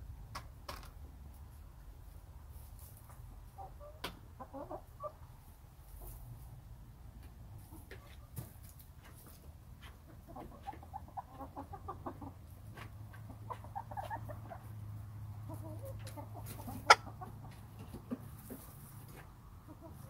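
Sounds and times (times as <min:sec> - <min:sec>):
hens clucking: 0:01.5 - 0:20.0.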